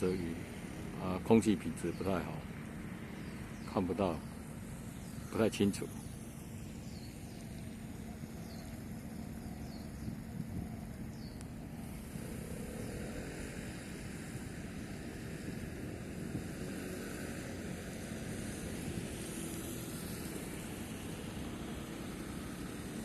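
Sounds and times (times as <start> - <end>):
boat engines rumbling: 0.0 - 23.0.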